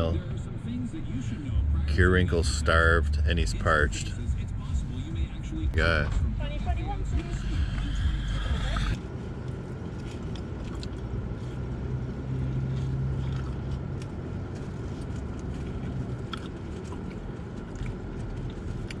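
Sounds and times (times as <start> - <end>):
car engine humming: 0.0 - 19.0.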